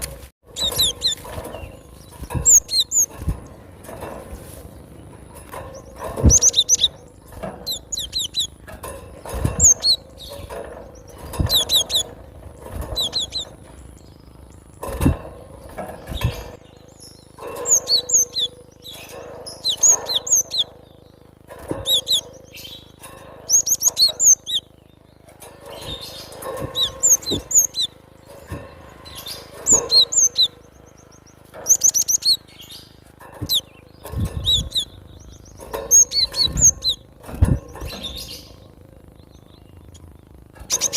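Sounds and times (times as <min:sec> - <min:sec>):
bird chirping: 0:00.0 - 0:04.2, 0:04.8 - 0:40.9.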